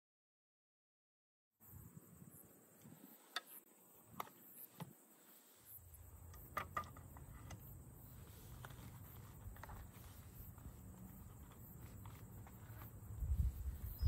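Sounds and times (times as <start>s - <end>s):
high insect-like hum: 1.6s - 14.0s.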